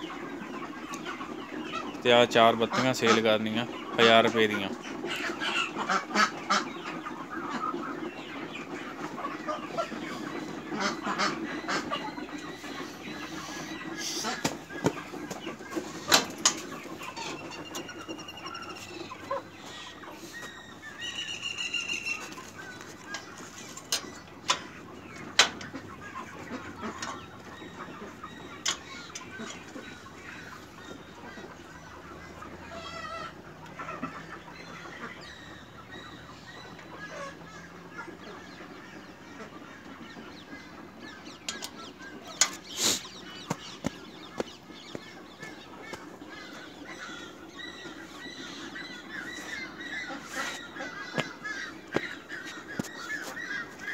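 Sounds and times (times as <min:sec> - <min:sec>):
birds calling: 0:00.0 - 0:53.9
chickens clucking: 0:00.0 - 0:53.9.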